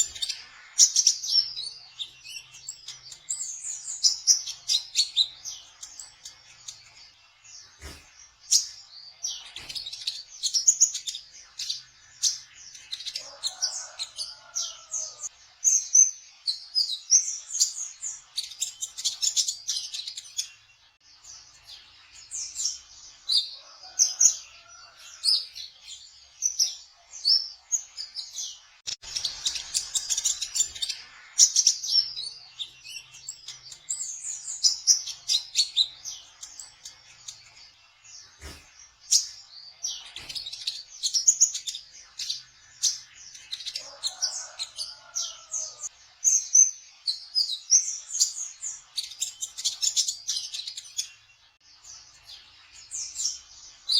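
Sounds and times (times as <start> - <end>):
bird twittering song: 0.0 - 53.9.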